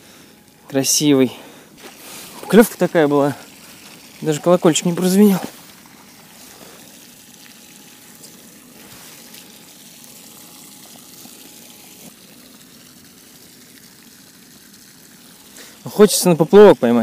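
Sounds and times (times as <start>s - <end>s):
water hiss: 0.0s - 17.0s.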